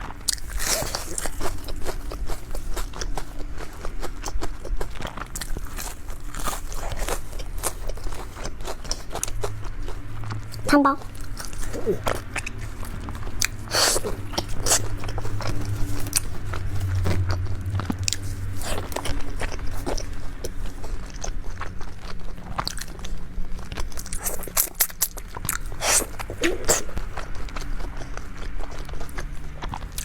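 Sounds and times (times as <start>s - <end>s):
low steady hum: 0.0s - 30.0s
person biting and chewing: 0.0s - 30.0s.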